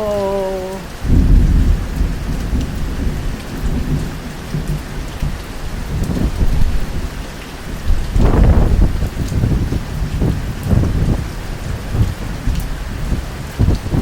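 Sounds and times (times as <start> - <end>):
steady rain: 0.0 - 14.0
rolling thunder: 1.0 - 7.1, 7.9 - 14.0.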